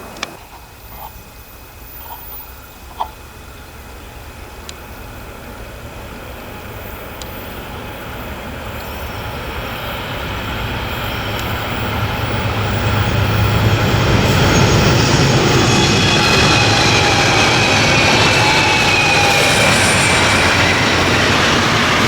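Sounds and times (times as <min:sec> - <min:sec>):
locomotive engine drone: 0:00.0 - 0:22.0
train wheel and rail noise: 0:00.0 - 0:22.0.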